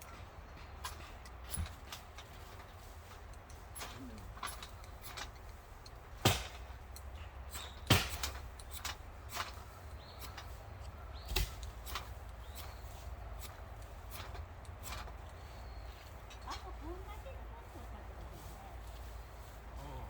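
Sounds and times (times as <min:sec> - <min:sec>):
fire-starter rod scraping: 0:00.0 - 0:20.0.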